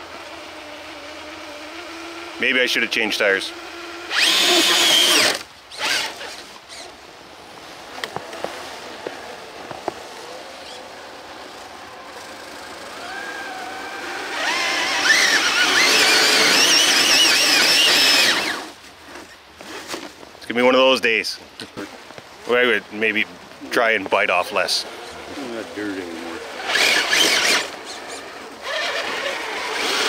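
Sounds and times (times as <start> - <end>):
electric motor and gear whine: 0.0 - 20.1, 24.7 - 30.0.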